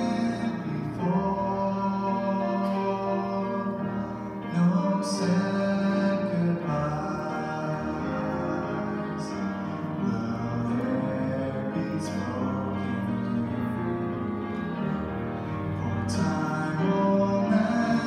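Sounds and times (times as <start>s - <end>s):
mixed choir singing a hymn: 0.0s - 18.0s.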